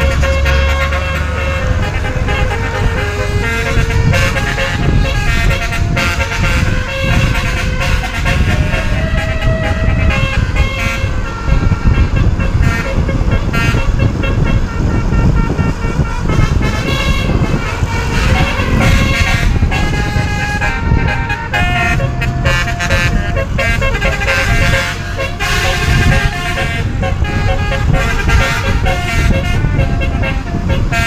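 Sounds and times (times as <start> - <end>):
loud low rumble: 0.0 - 31.0
multi-tone vehicle horn melody: 0.0 - 31.0.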